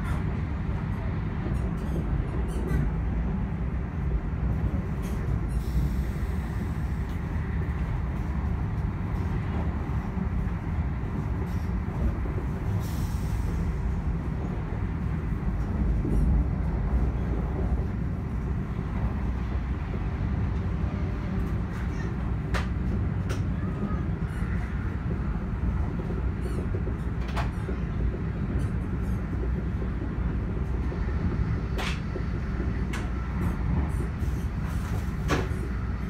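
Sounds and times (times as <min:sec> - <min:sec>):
moving train rumbling: 0:00.0 - 0:36.0.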